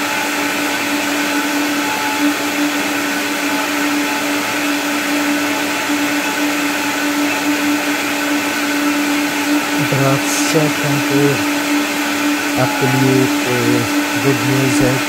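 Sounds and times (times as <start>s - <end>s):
blender whirring: 0.0s - 15.0s.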